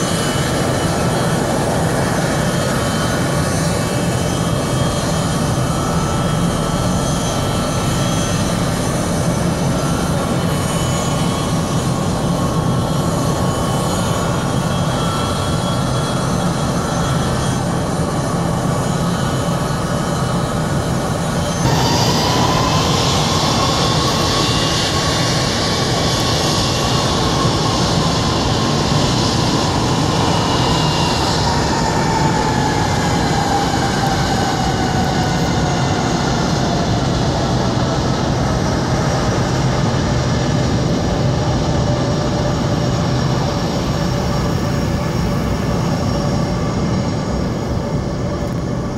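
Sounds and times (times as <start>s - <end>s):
jet engines roaring: 0.0s - 48.9s.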